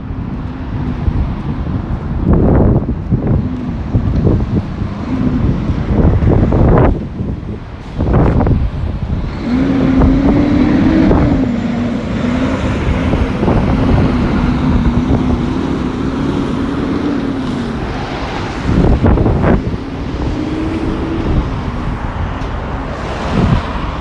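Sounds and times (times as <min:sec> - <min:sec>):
road traffic: 0:00.0 - 0:24.0
vehicle humming: 0:00.0 - 0:24.0
wind buffeting microphone: 0:00.0 - 0:24.0.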